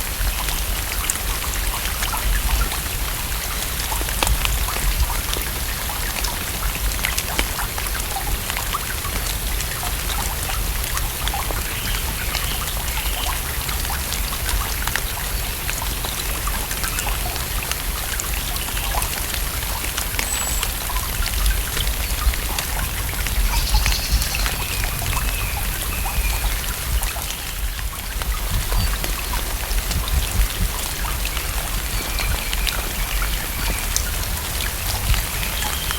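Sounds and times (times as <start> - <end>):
rain falling on a lake: 0.0 - 35.9.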